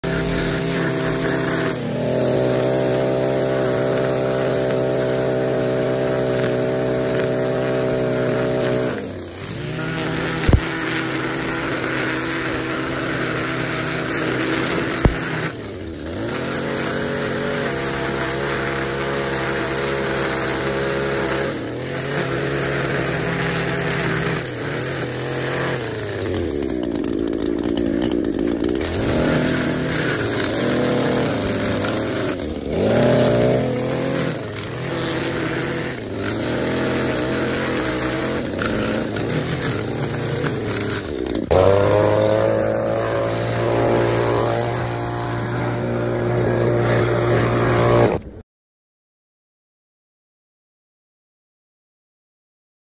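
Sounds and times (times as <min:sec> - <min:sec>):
string trimmer cutting grass: 0:00.0 - 0:48.4.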